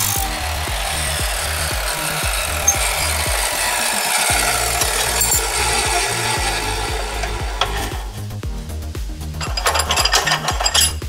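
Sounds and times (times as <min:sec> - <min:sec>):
chop saw grinding metal: 0:00.0 - 0:08.2, 0:09.4 - 0:11.0
background music with beat: 0:00.0 - 0:11.0.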